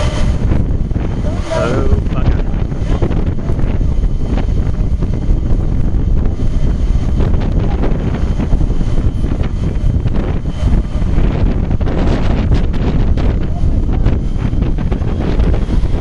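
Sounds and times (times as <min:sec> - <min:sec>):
jet engines at takeoff thrust: 0:00.0 - 0:16.0
wind buffeting microphone: 0:00.0 - 0:16.0.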